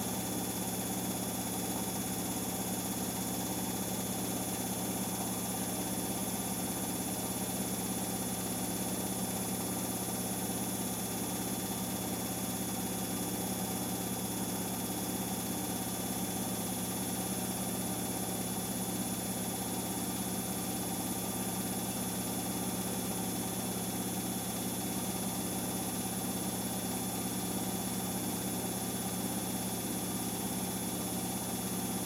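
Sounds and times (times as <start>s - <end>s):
washing machine spinning: 0.0s - 32.0s.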